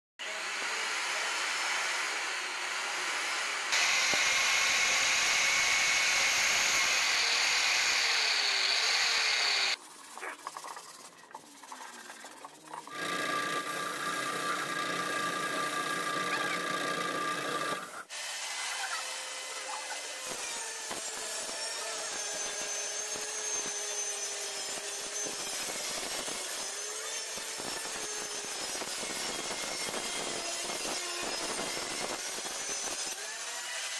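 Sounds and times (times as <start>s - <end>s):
electric drill boring plywood: 0.2s - 9.8s, 11.6s - 33.9s
table saw running: 0.2s - 9.8s, 12.9s - 33.9s.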